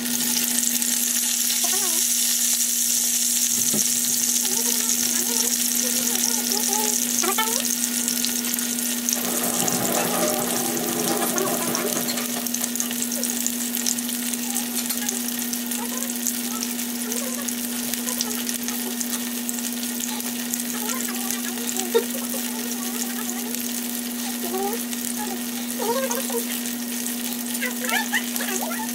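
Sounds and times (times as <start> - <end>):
sausages sizzling in oil: 0.0 - 28.9.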